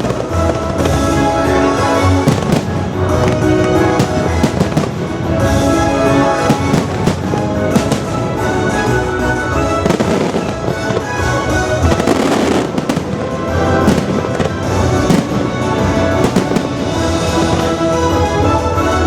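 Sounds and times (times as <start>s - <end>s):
fireworks bangs: 0.0s - 18.5s
orchestral music: 0.0s - 19.0s.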